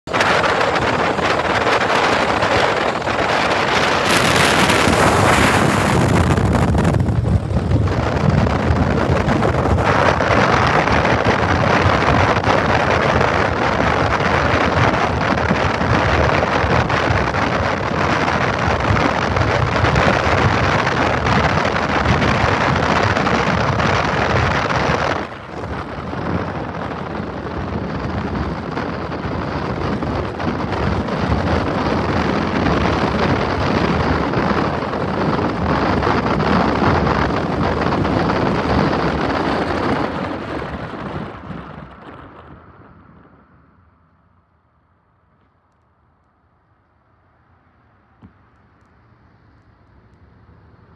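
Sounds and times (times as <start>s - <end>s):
wind buffeting microphone: 0.0s - 44.0s
vehicle rumble: 0.0s - 50.9s.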